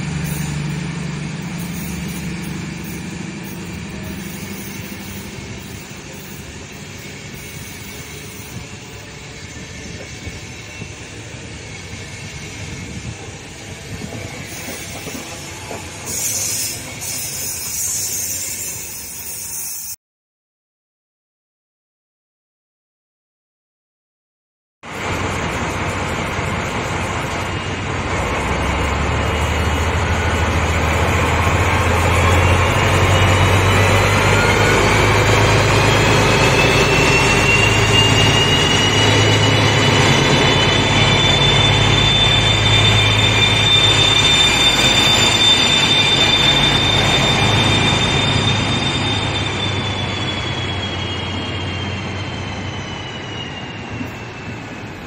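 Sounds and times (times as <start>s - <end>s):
high engine whine: 0.0s - 16.2s, 24.9s - 55.0s
diesel locomotive engine throb: 0.0s - 17.8s, 24.9s - 55.0s.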